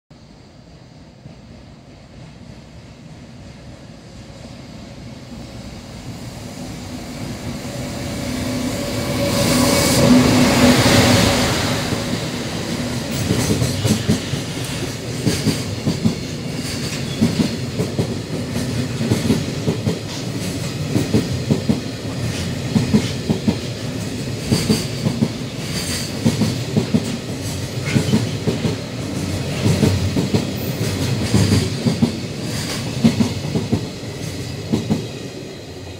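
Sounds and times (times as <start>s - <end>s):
freight train passing: 0.1s - 35.9s.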